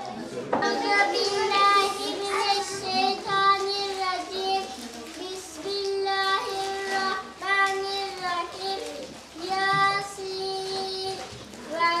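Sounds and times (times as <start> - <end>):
young children singing: 0.6 - 12.0.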